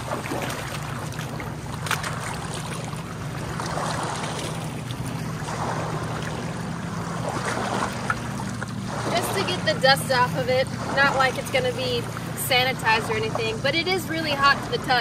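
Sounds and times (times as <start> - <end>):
steady low hum: 0.0 - 15.0
water splashing and sloshing: 0.0 - 15.0.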